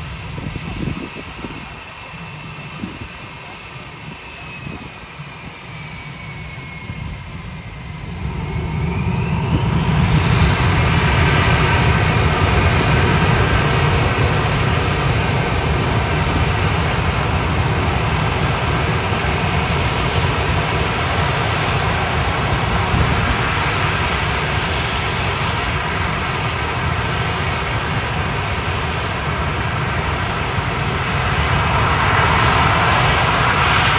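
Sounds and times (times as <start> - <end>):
jet engine spooling up: 0.0 - 33.9.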